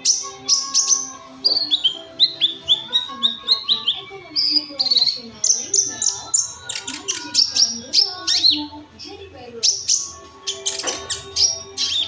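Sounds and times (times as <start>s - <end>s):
sunbird chirping: 0.0s - 12.0s.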